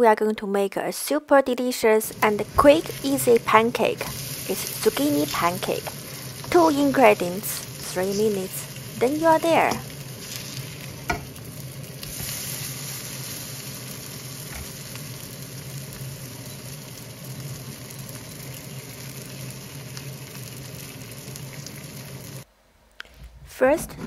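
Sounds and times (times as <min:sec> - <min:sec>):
steady low hum: 0:01.9 - 0:24.0
pancakes sizzling in oil: 0:02.0 - 0:22.5.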